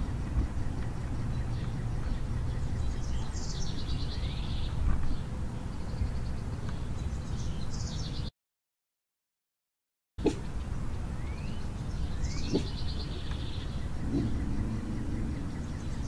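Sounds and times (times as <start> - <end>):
low outdoor rumble: 0.0 - 8.0, 10.2 - 16.0
songbird singing: 0.0 - 8.3, 10.2 - 16.0.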